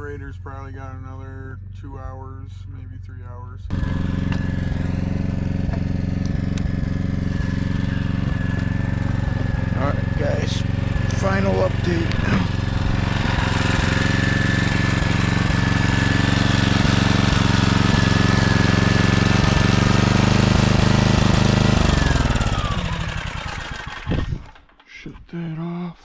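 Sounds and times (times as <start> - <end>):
engine winding down: 3.6 - 25.8
generator engine running: 3.6 - 25.8.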